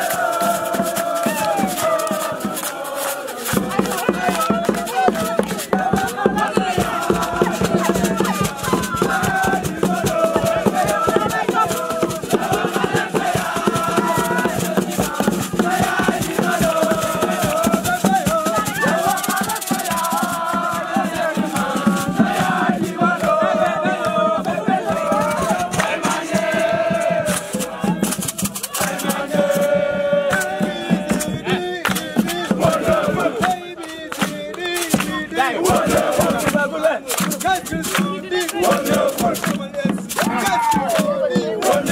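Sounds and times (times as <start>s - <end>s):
group of voices singing: 0.0s - 41.9s
shaken rattle percussion: 0.0s - 41.9s.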